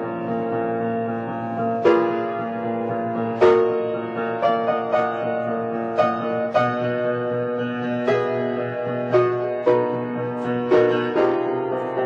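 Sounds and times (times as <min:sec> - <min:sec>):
solo piano classical piece: 0:00.0 - 0:12.0.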